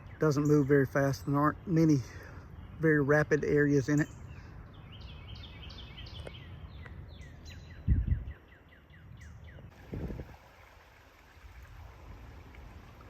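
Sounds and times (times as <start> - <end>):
songbird singing: 0.0 - 11.7.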